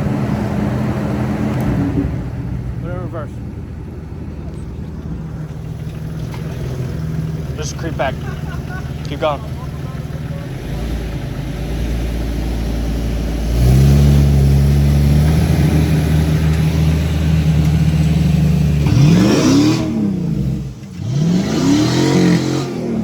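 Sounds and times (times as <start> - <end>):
car engine running and revving: 0.0 - 23.0.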